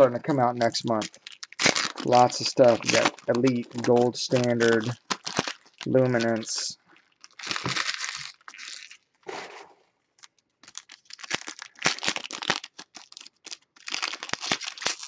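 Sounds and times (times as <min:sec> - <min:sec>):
foil wrappers crinkling and tearing: 0:00.0 - 0:09.2, 0:10.2 - 0:15.0.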